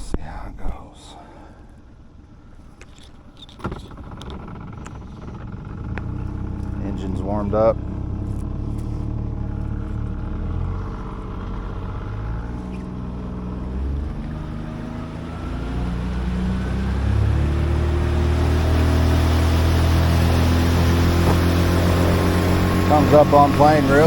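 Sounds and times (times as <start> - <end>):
outboard motor running: 1.8 - 24.0.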